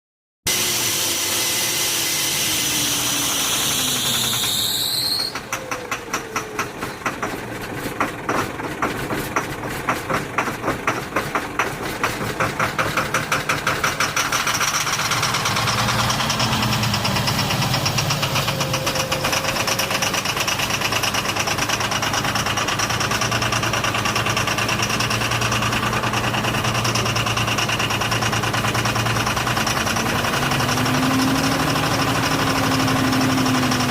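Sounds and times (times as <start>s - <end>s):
engine running and idling: 0.5s - 33.9s
engine starter whine: 0.5s - 33.9s.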